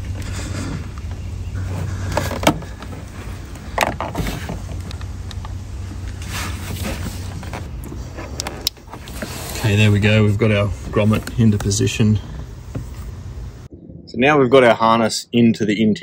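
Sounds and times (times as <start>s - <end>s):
rubber grommet rubbing and rustling: 0.0s - 13.7s
steady low hum: 0.0s - 15.8s.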